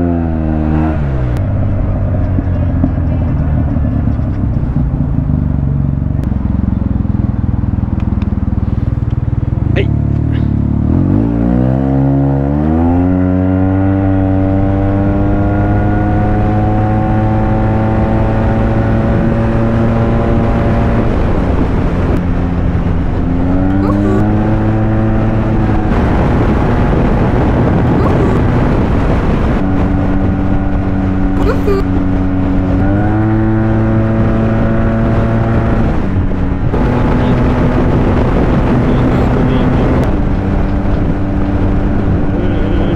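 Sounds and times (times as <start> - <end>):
wind noise: 0.0 - 6.3, 10.9 - 42.9
scooter engine revving: 0.0 - 21.6, 23.3 - 29.9, 30.6 - 42.9.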